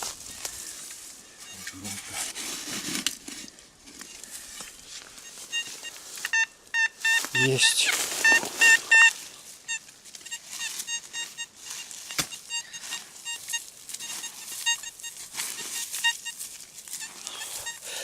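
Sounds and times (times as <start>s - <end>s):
metal detector short beeps: 1.3s - 2.0s, 4.0s - 18.0s.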